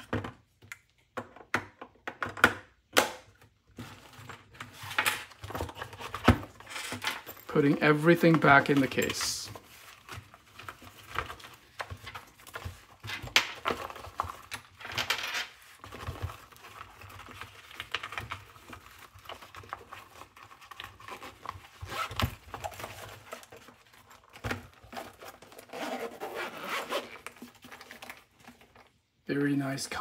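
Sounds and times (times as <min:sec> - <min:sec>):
rustling and scraping of fabric case: 0:03.7 - 0:28.9.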